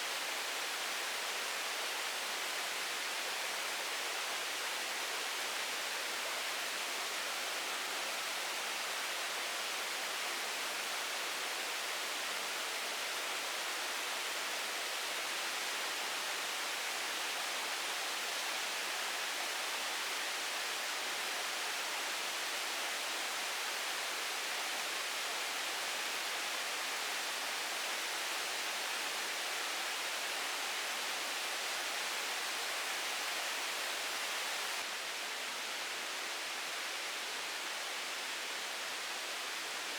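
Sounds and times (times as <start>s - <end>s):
steady hiss of noise: 0.0s - 39.9s.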